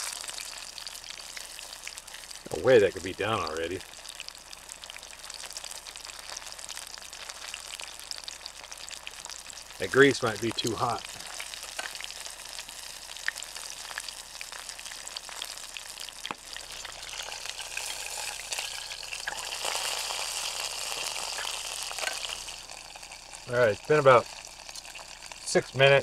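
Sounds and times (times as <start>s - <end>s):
chicken deep-frying sizzle: 0.0s - 26.0s
grease popping: 0.0s - 26.0s.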